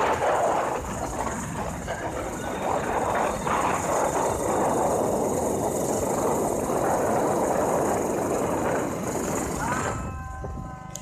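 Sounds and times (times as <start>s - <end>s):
motorcycle engine: 0.0s - 11.0s
wind and road noise: 0.0s - 11.0s.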